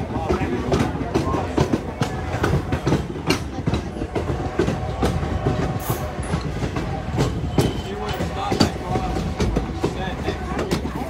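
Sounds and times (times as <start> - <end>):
train wheels clacking on rails: 0.0 - 11.0.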